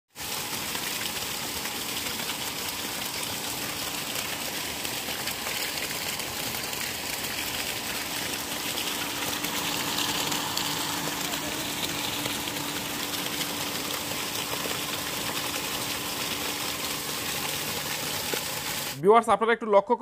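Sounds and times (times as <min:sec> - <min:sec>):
water gushing from pipe: 0:00.1 - 0:19.0
faint pump hum: 0:00.2 - 0:19.0.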